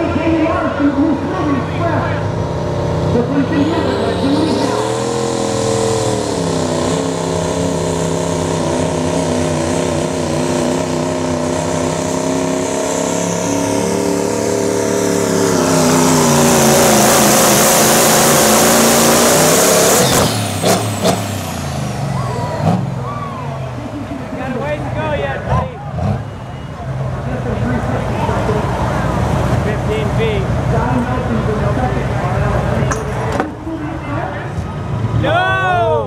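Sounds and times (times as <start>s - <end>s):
diesel engine under full load: 0.0s - 36.0s.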